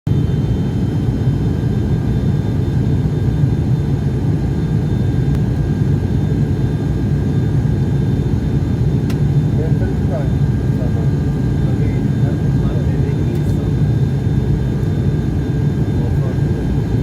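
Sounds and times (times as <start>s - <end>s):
propeller airplane engine drone: 0.1s - 17.0s.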